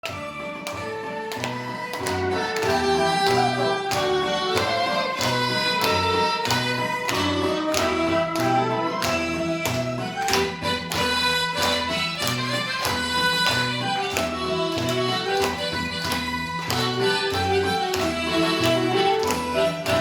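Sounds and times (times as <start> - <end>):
harmonica melody: 0.0 - 20.0.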